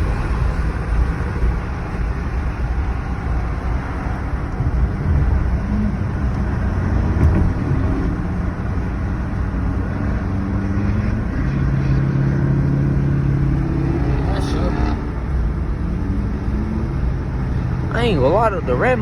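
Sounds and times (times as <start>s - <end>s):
car engine running: 0.0s - 19.0s
road noise: 0.0s - 19.0s.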